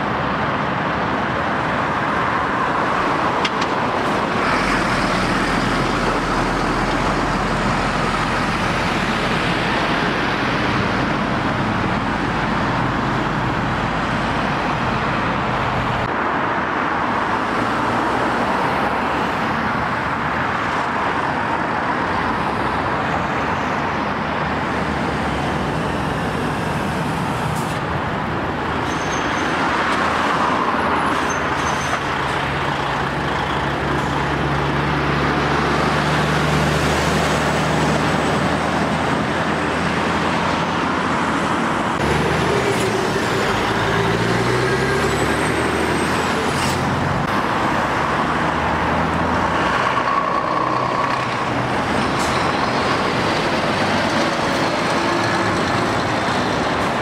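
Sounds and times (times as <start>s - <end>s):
lorries passing: 0.0s - 57.0s
road traffic: 0.0s - 57.0s.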